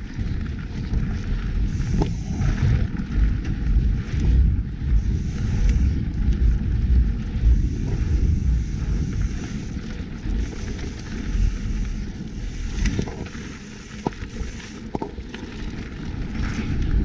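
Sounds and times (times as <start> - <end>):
bike rolling over trail: 0.0 - 17.0
wind buffeting microphone: 0.0 - 17.0.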